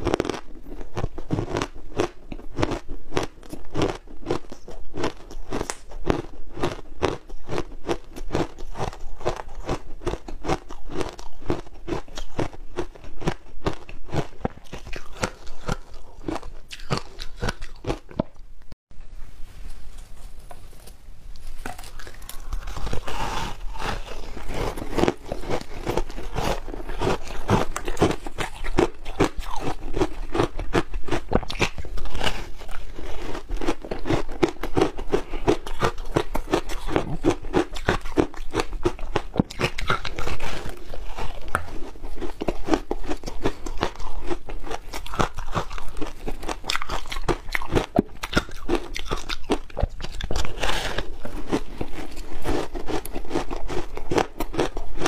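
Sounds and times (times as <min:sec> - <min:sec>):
person crunching shaved ice: 0:00.0 - 0:18.2, 0:21.5 - 0:55.0.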